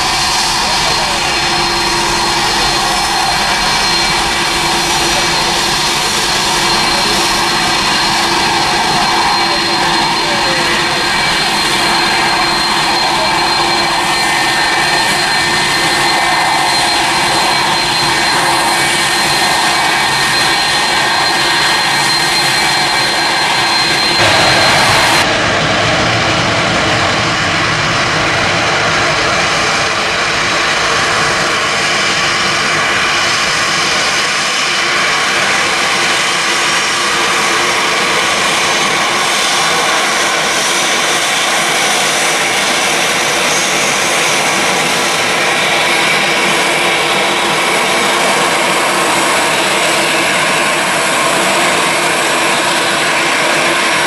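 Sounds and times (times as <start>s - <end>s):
jet engines at takeoff with whine: 0.0s - 54.0s
jet takeoff rush: 0.0s - 54.0s.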